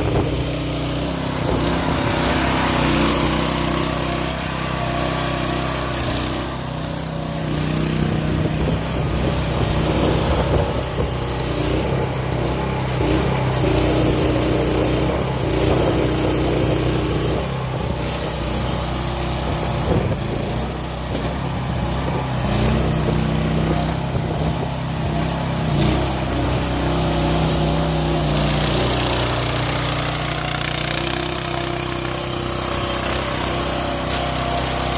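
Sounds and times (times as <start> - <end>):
small excavator engine running: 0.0 - 34.9.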